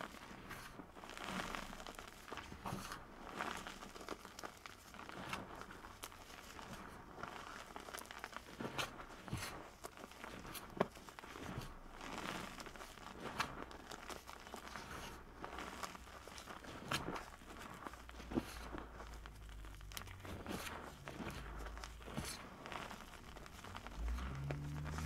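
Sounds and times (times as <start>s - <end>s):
hands crumbling cornstarch: 0.0s - 25.0s.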